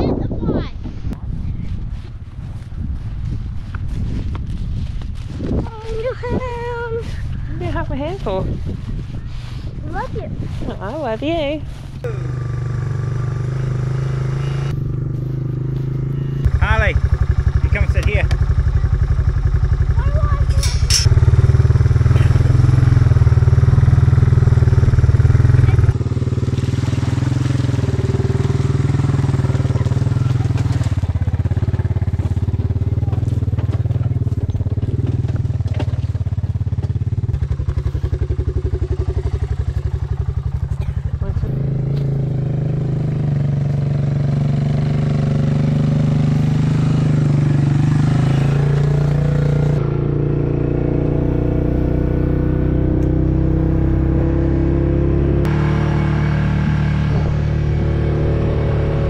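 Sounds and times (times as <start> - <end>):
quad bike engine running: 9.8 - 59.0.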